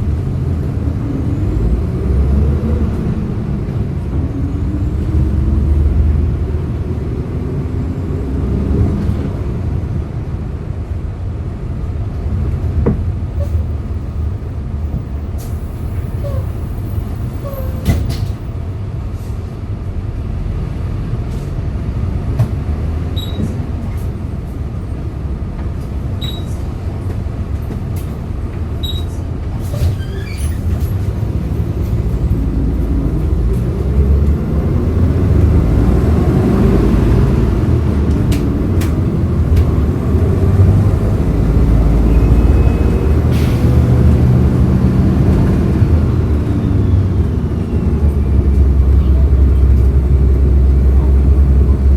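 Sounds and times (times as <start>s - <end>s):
bus engine accelerating: 0.0s - 51.9s.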